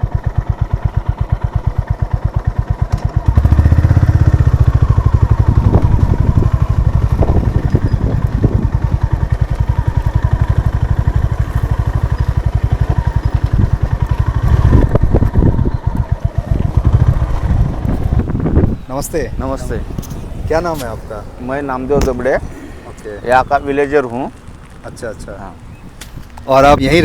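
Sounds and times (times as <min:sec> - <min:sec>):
motorcycle engine running: 0:00.0 - 0:24.8.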